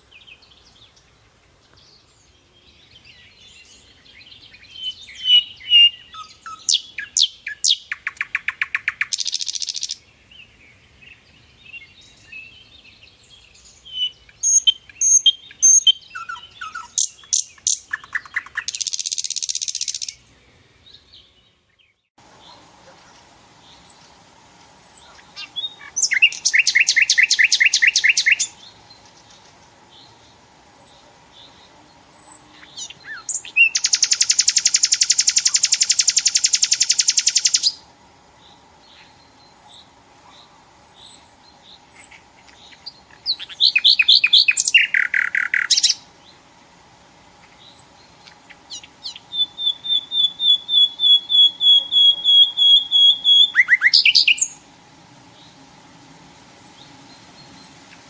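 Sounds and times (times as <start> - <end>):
nightingale singing: 0.0 - 58.0.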